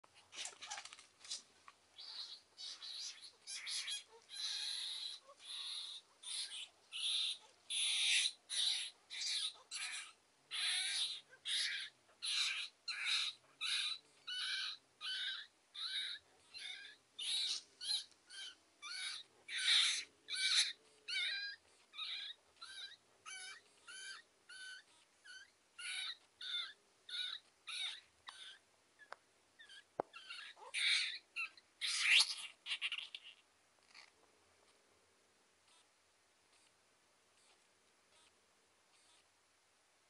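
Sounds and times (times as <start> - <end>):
rat squealing: 2.0 - 34.1, 37.4 - 39.3.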